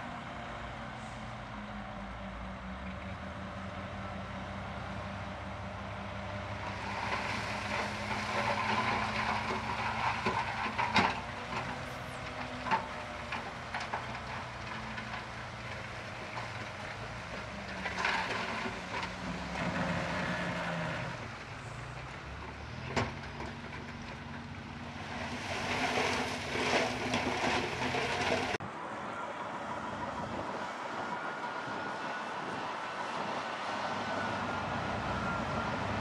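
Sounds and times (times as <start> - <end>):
heavy machine diesel engine: 0.0 - 36.0.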